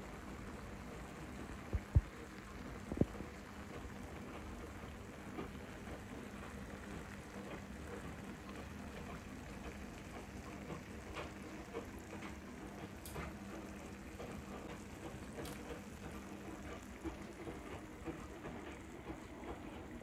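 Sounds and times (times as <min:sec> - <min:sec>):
rice sizzling in a pan: 0:00.0 - 0:19.3.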